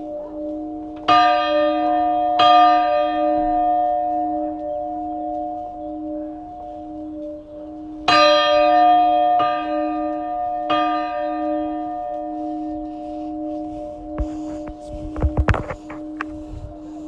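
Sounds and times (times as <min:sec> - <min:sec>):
church bell strikes: 0:00.0 - 0:14.8.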